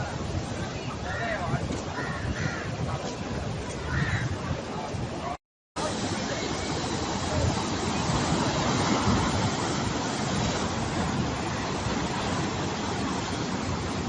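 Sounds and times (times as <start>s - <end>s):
wind blowing on microphone: 0.0s - 14.0s
sea surf breaking: 2.7s - 14.0s.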